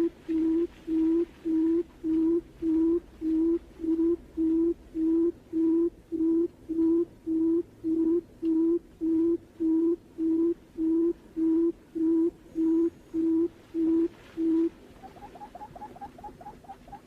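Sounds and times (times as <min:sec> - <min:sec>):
low hooting bird call: 0:00.0 - 0:17.0.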